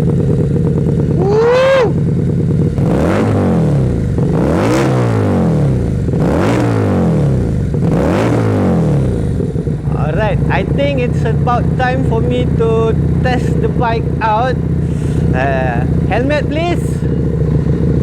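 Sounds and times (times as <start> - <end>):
motorcycle idling and revving: 0.0 - 18.0.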